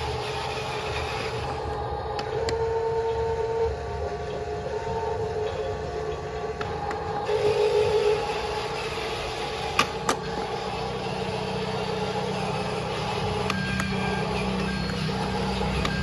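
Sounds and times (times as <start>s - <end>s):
toy electric motor whining: 0.0s - 1.8s, 2.4s - 16.0s.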